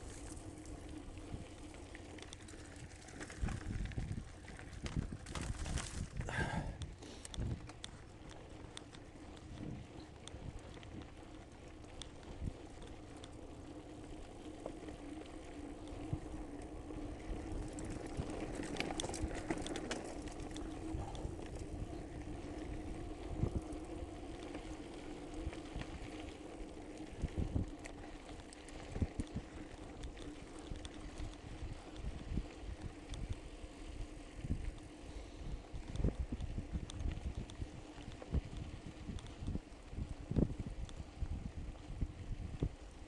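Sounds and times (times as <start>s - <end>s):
wind noise: 0.0s - 8.0s, 9.3s - 11.3s, 15.1s - 43.0s
bike tyre and frame rattle: 0.0s - 43.0s.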